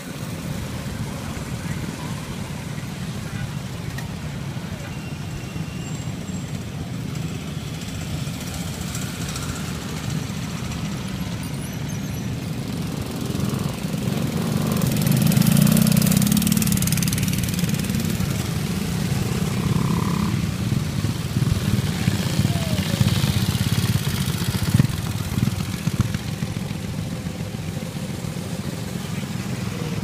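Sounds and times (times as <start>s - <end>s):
minibike engines passing: 0.0s - 30.0s.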